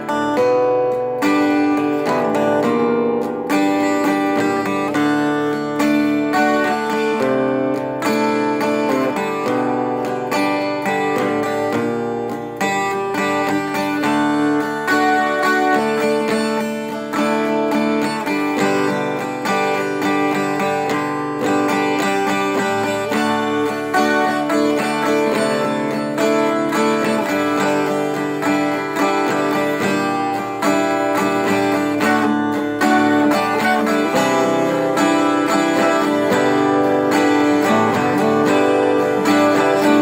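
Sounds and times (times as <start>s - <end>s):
guitar strumming and picking: 0.0s - 40.0s.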